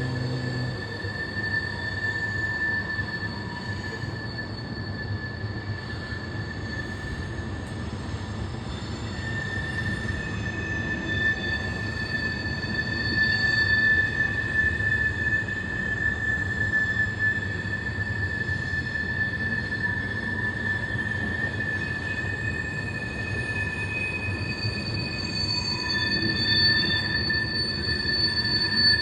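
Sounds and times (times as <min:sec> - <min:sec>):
freight train cars rolling past: 0:00.0 - 0:29.0
high-pitched wheel squeal: 0:00.0 - 0:29.0.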